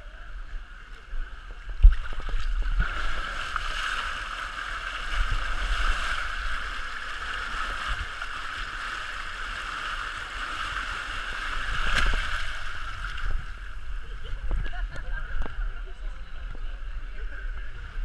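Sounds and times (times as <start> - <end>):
muffled river current rushing: 0.0 - 18.0.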